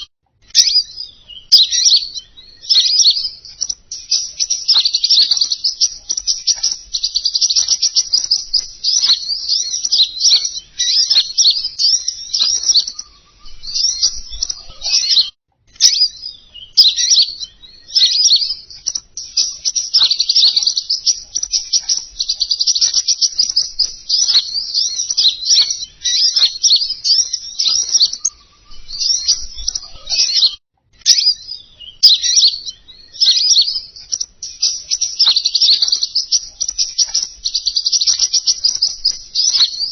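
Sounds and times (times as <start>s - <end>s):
songbird twittering: 0.0s - 39.9s.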